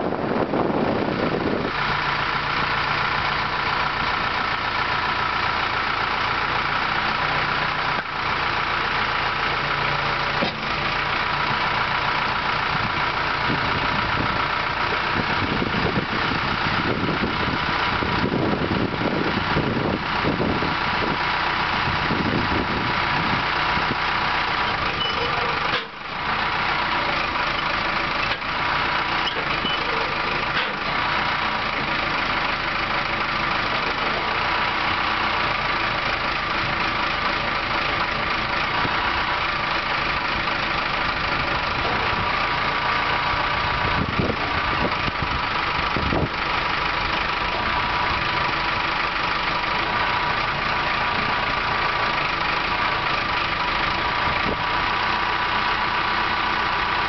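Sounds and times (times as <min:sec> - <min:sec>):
diesel engine running: 0:00.0 - 0:57.0
hydraulics working: 0:00.0 - 0:57.0.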